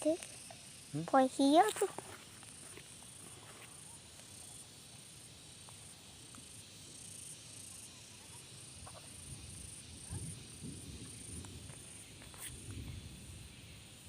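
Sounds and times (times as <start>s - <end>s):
high-pitched insect trilling: 0.0s - 14.0s.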